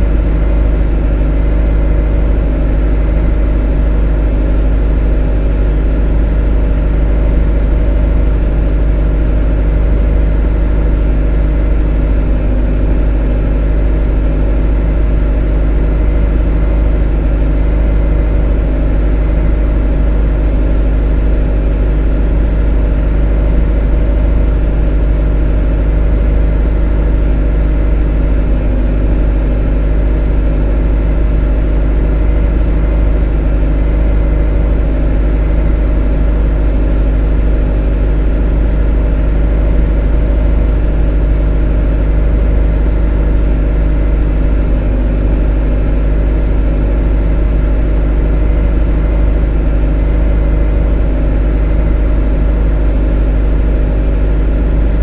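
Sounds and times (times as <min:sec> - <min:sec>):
motor droning steadily: 0:00.0 - 0:55.0.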